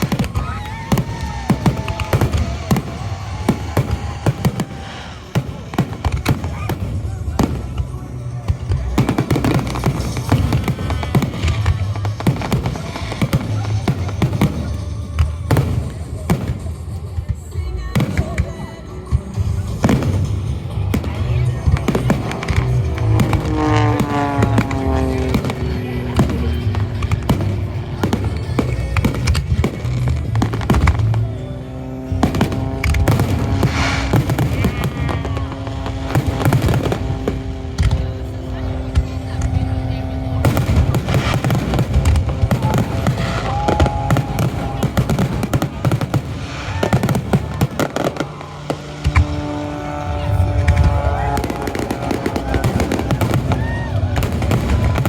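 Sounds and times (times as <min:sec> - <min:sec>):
engine-like drone: 0:00.0 - 0:55.0
fireworks banging: 0:00.0 - 0:55.0.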